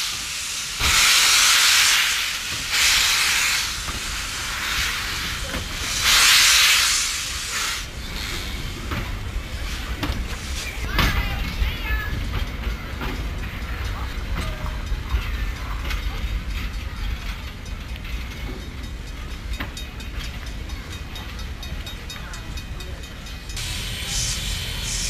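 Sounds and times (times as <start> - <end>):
railway carriages rumbling: 0.0 - 25.0.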